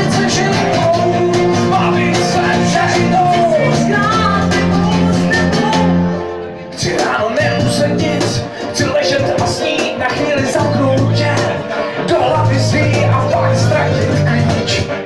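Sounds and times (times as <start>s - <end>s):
acoustic guitar: 0.0s - 15.0s
bass guitar: 0.0s - 15.0s
person singing: 0.0s - 15.0s.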